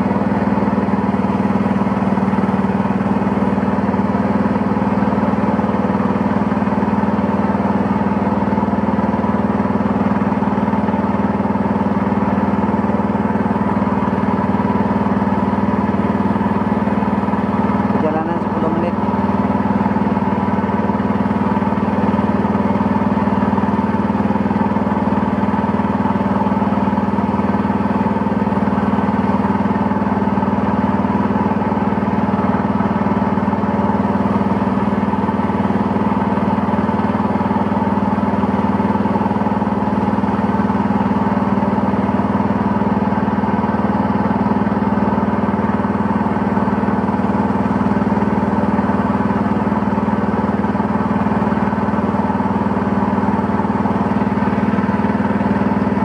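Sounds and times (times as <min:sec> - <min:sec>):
motorboat engine running: 0:00.0 - 0:56.0.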